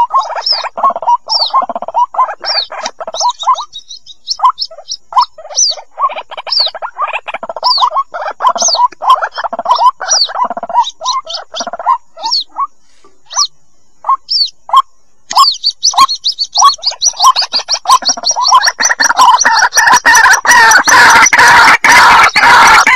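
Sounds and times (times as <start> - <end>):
chicks cheeping: 0.0 - 22.9.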